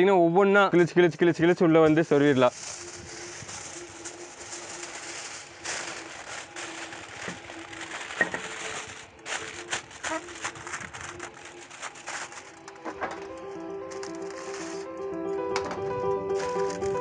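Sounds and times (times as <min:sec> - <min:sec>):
aluminium foil crinkling: 0:01.7 - 0:15.0, 0:16.3 - 0:17.0.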